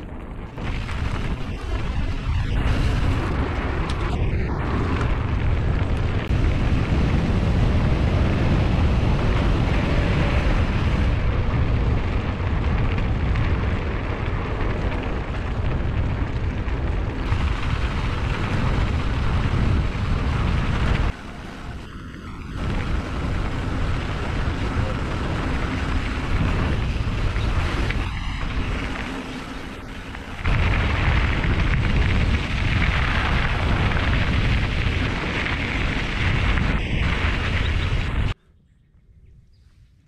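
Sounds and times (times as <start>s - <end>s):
tyre noise on dirt trail: 0.0s - 38.7s
wind buffeting microphone: 0.0s - 40.0s.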